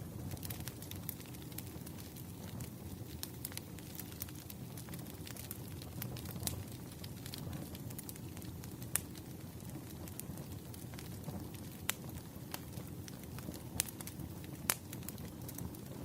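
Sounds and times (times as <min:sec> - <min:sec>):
campfire flames rushing: 0:00.0 - 0:16.0
fire crackles and pops: 0:00.0 - 0:16.0.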